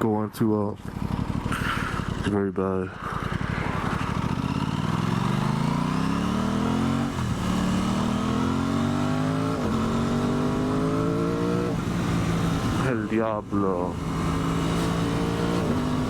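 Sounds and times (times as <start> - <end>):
motorcycle engine accelerating: 0.8 - 16.0.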